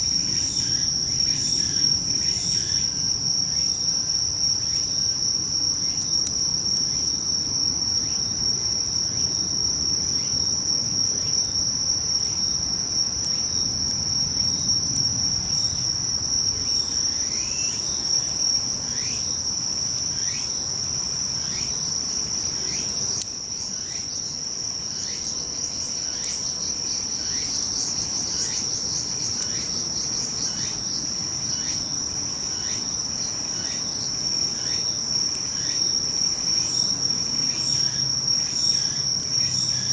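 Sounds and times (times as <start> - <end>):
cricket steady high trill: 0.0 - 39.9.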